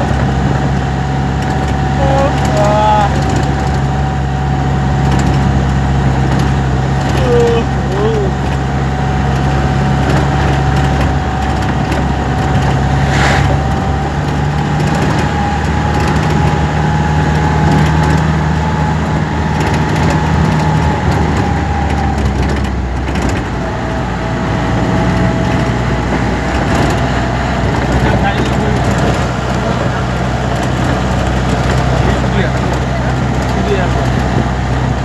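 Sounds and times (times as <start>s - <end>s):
vehicle hum: 0.0s - 35.0s.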